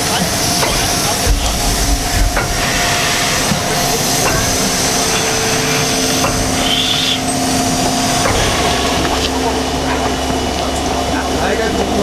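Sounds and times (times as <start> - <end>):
turntable mechanical rumble: 0.0 - 12.0.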